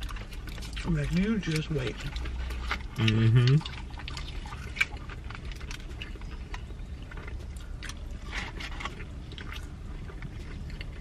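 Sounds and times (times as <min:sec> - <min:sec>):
low steady hum: 0:00.0 - 0:11.0
people chewing with mouth clicks: 0:00.0 - 0:11.0.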